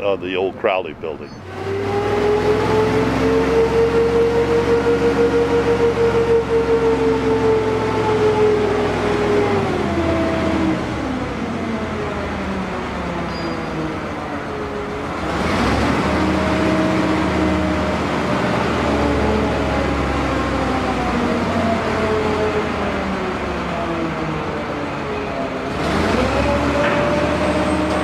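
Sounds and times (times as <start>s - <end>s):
crane diesel engine running: 0.0s - 28.0s.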